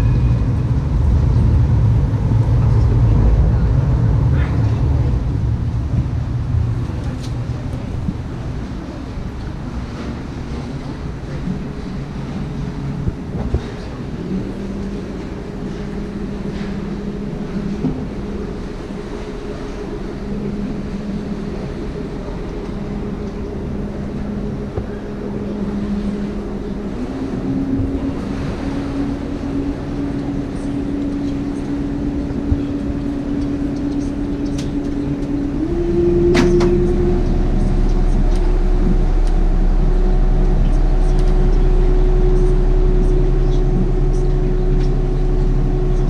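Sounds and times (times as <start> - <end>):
boat engine humming: 0.0 - 46.0.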